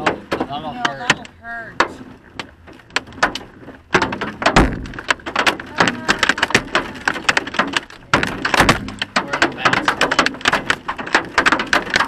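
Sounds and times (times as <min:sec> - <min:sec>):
hailstones pelting a truck: 0:00.0 - 0:12.0.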